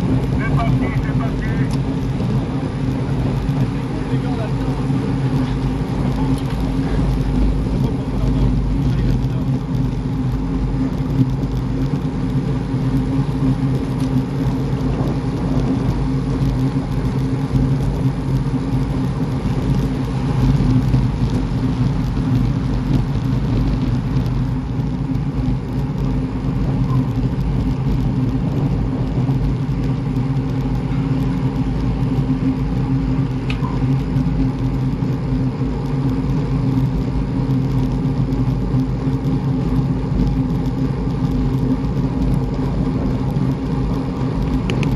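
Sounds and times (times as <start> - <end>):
vehicle engine and road rumble: 0.0 - 44.9.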